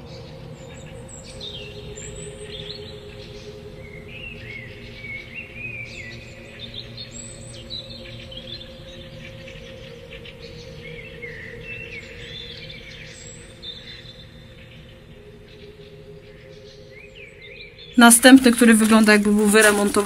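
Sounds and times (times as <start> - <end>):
songbirds chirping and singing: 0.0 - 20.0.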